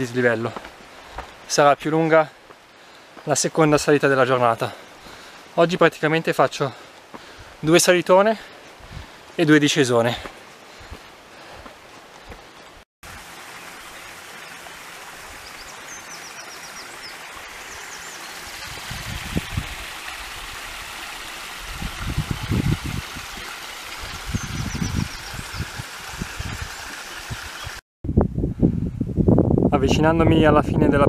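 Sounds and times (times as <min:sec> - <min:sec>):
running water rushing: 0:00.0 - 0:27.8.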